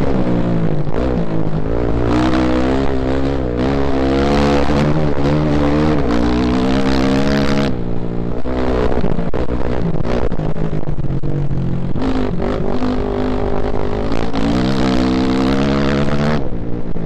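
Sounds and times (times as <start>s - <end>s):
off-road motorcycle engine: 0.0s - 17.0s.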